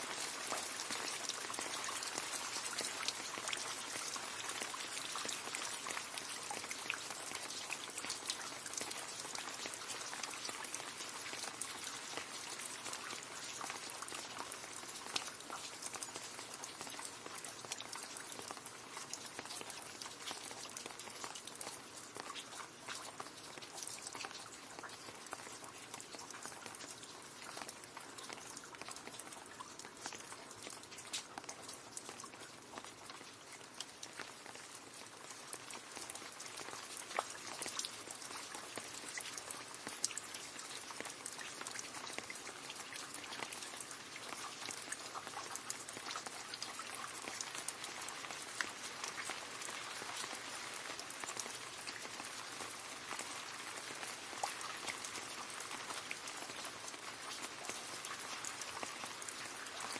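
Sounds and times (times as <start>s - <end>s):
rain falling into a puddle: 0.0s - 59.9s.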